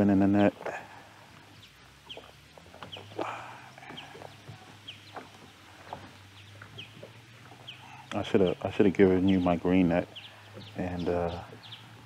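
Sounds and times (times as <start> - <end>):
bird chirping: 1.5 - 12.0.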